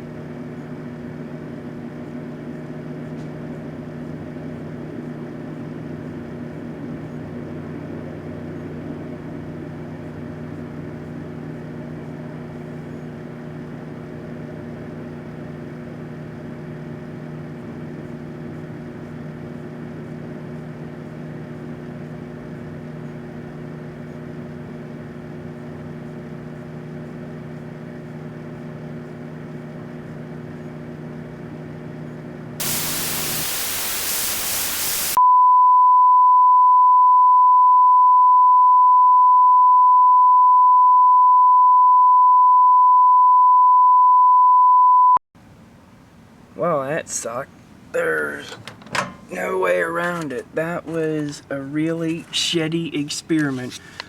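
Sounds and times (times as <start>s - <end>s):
microwave oven humming: 0.0s - 35.2s, 45.4s - 54.0s.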